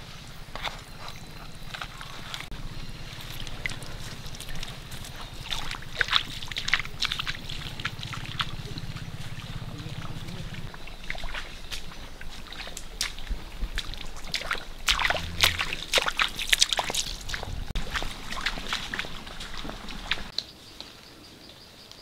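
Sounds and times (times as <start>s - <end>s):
bare feet splashing through stream: 0.2s - 20.3s.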